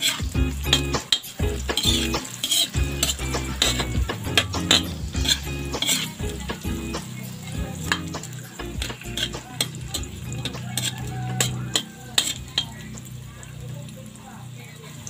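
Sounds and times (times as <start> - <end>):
metal spatula scraping a wok: 0.0 - 13.2
light frying sizzle: 0.0 - 15.0.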